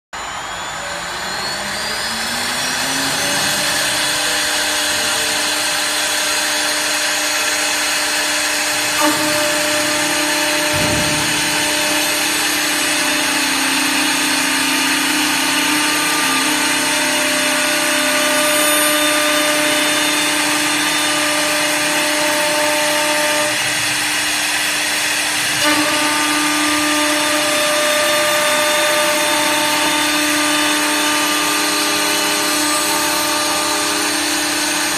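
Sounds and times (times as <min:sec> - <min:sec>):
cutters shaving wood: 0:00.2 - 0:34.9
wood lathe motor hum: 0:00.2 - 0:34.9.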